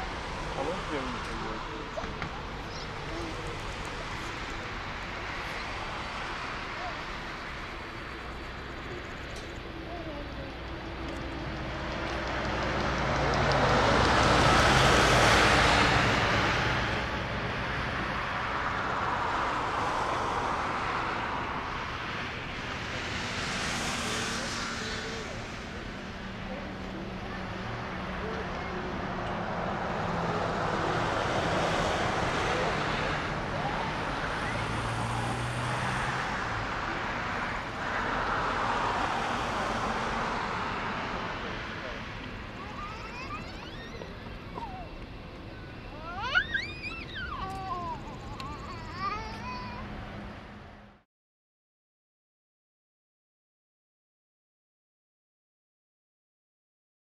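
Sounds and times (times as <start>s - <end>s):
jet engines roaring: 0.0s - 48.8s.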